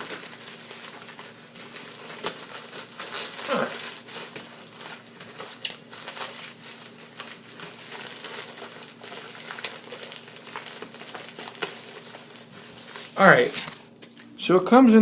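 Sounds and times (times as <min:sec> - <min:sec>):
packaging crinkling: 0:00.0 - 0:14.1.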